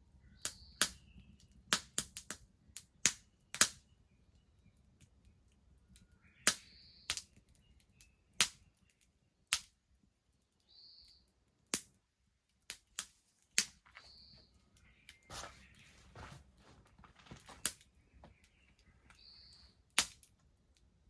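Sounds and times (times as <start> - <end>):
bonfire crackling and popping: 0.4 - 3.9, 4.9 - 10.7, 11.5 - 21.0.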